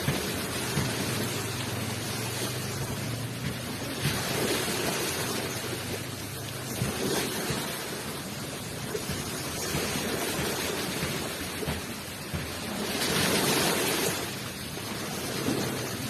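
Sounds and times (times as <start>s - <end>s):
ocean waves rushing onto shore: 0.0s - 16.0s.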